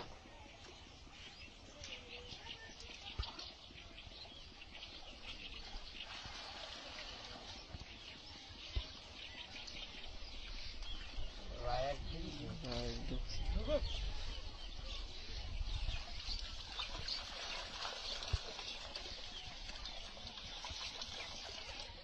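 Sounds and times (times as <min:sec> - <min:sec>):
birds chirping: 0:00.0 - 0:22.0
outdoor background noise: 0:00.0 - 0:22.0.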